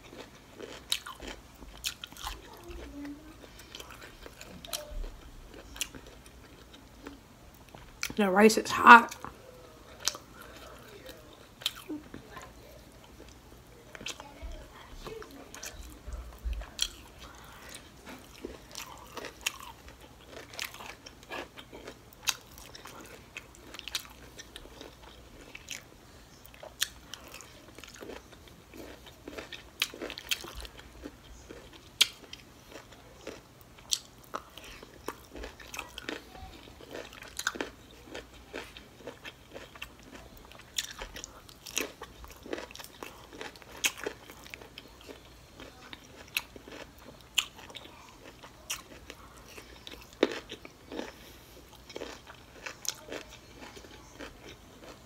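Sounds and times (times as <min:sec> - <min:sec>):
chewing crunchy broccoli: 0:00.0 - 0:08.2, 0:08.9 - 0:55.0.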